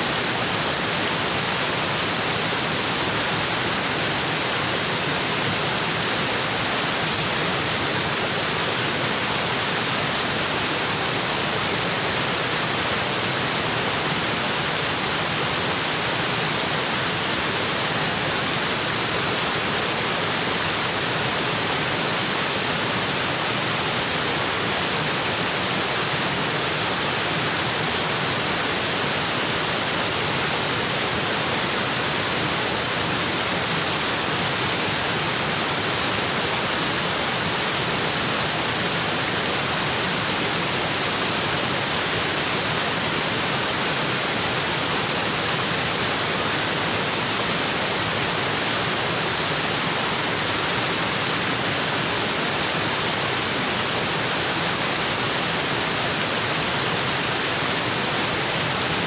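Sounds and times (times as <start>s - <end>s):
waterfall crashing onto rocks: 0.0s - 59.0s.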